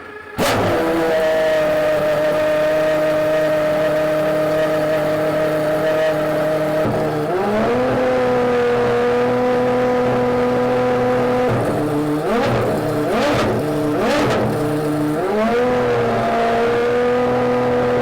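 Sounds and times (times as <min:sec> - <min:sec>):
sports car engine revving: 0:00.0 - 0:18.0.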